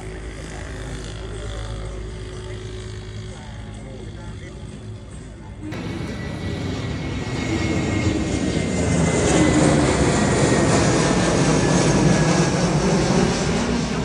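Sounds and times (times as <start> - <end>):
airplane flying low overhead: 0.0 - 14.0
thin high engine whine: 0.0 - 14.0.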